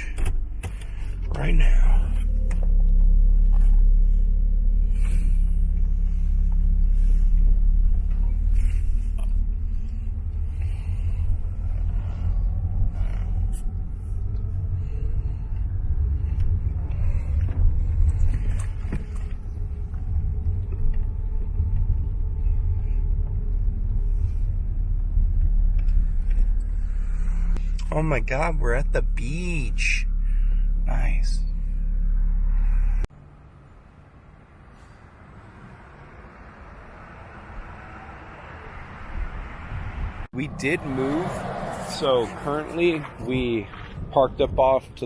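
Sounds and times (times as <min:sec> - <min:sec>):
car engine and road noise: 0:00.0 - 0:45.0.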